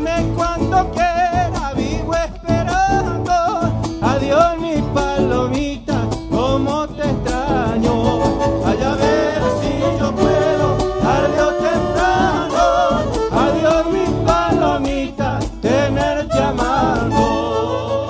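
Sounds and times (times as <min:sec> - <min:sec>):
folk band with guitar and violin: 0:00.0 - 0:18.0.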